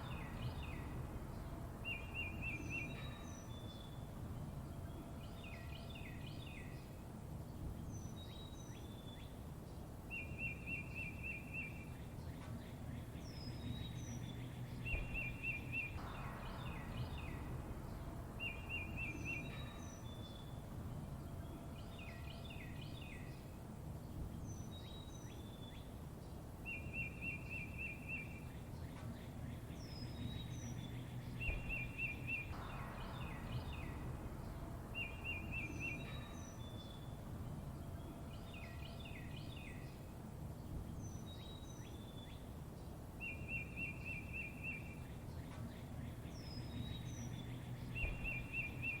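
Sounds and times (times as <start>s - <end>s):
low outdoor rumble: 0.0s - 49.0s
songbirds chirping: 0.0s - 49.0s.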